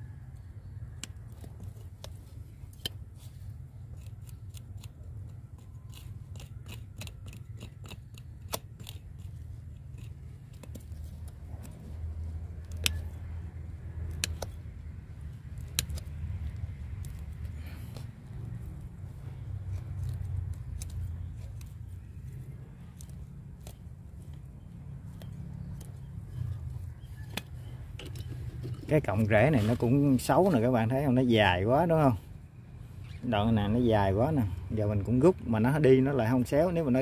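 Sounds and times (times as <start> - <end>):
low background hum: 0.0 - 35.5
pruning shears snipping: 1.0 - 30.8.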